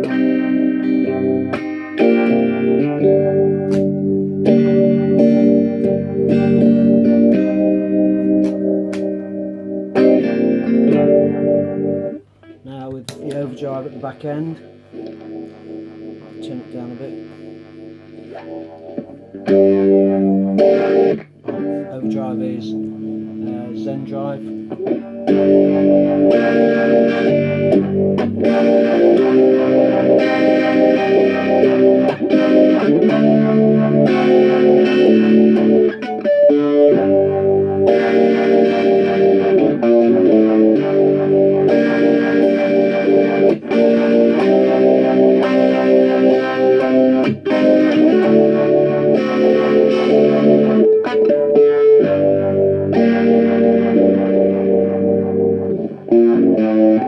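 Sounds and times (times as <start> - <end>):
phased overdriven electric guitar chords: 0.0 - 57.0.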